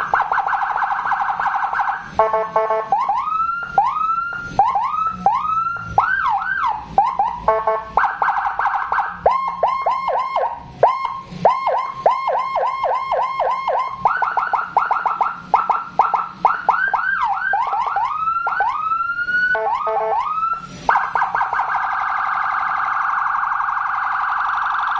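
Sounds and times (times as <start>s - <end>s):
electronic siren cycling tones: 0.0s - 24.9s.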